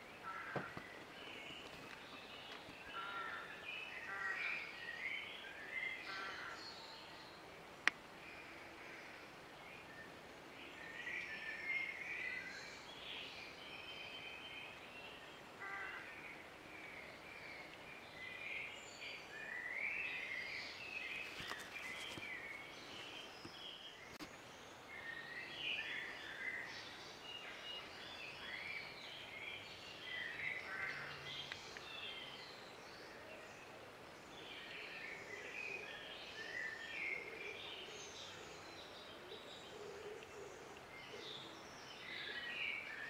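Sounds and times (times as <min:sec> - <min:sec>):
faint steady hiss: 0:00.0 - 0:43.0
songbirds singing: 0:00.0 - 0:43.0.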